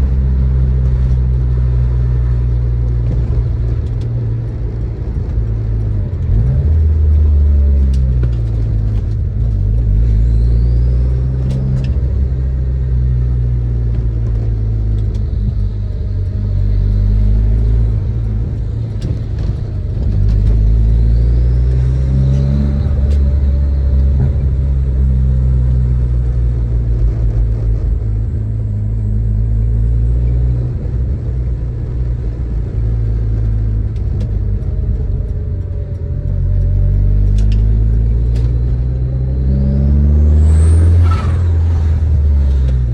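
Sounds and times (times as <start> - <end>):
car exhaust drone: 0.0 - 42.9.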